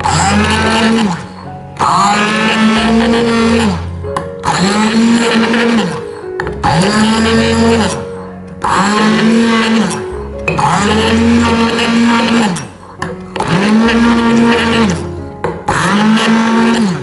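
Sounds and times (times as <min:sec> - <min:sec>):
hand blender motor whirring: 0:00.0 - 0:17.0.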